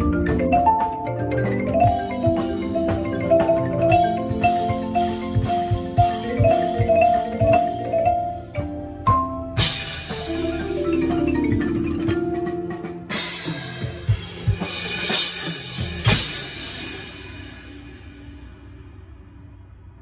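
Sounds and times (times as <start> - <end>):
marching band front ensemble: 0.0 - 17.3
marimba notes: 0.0 - 17.5.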